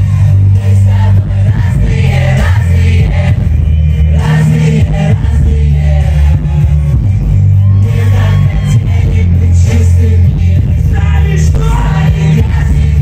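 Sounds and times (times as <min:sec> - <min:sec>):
people singing: 0:00.0 - 0:07.0, 0:07.8 - 0:13.0
heavy bass line: 0:00.0 - 0:13.0
live pop music over pa system: 0:00.0 - 0:13.0.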